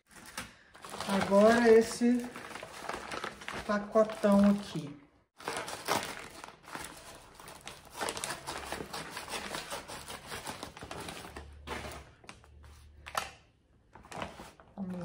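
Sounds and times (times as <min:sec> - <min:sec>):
wrapping rustling and crinkling: 0:00.0 - 0:13.0, 0:13.9 - 0:15.0.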